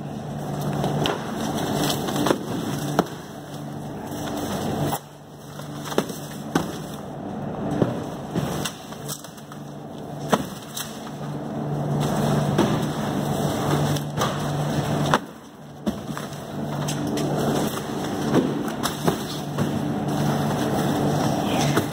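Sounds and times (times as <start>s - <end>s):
factory machinery hum: 0.0s - 21.9s.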